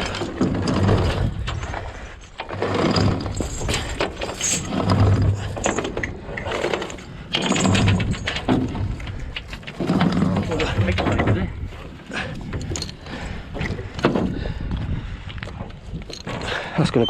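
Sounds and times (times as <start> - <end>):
heavy chain rattling and clanking: 0.0 - 17.0.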